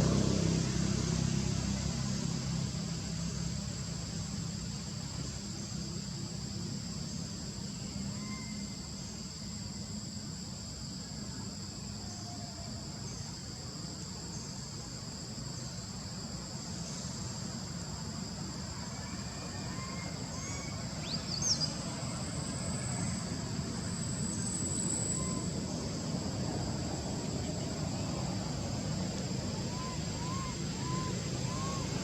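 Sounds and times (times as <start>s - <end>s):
high-pitched insect drone: 0.5s - 32.0s.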